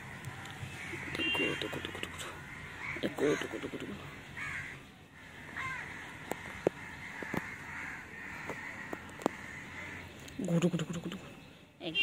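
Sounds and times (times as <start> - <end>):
crows cawing: 0.0 - 10.2.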